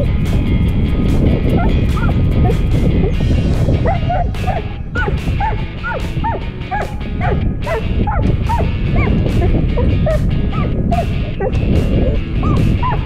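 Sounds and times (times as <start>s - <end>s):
steady low rumble: 0.0s - 13.0s
dog yipping and whining: 1.6s - 3.2s, 3.8s - 13.0s.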